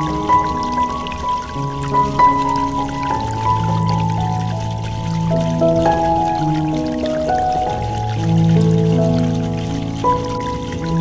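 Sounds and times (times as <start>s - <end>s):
ambient music with soft held notes: 0.0s - 11.0s
faint running water: 0.0s - 11.0s.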